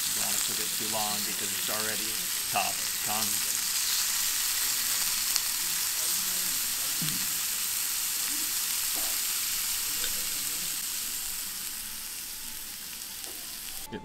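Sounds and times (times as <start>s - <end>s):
meat sizzling in a pan: 0.0s - 13.9s.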